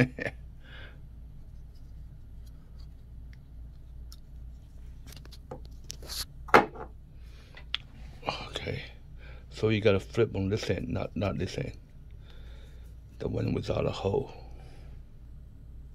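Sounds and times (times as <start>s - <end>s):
faint room hum: 0.0s - 15.9s.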